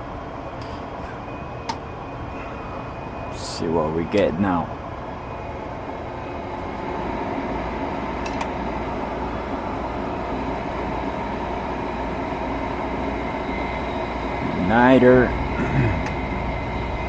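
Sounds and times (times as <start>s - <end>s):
furnace inducer motor humming: 0.0s - 17.0s.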